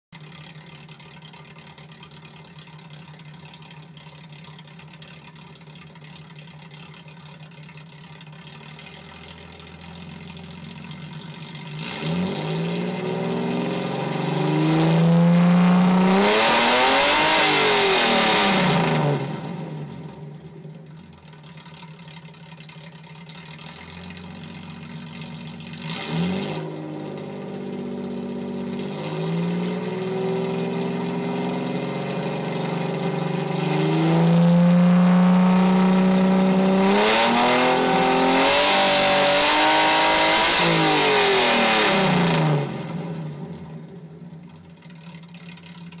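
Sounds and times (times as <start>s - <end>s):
car engine revving: 0.2s - 46.0s.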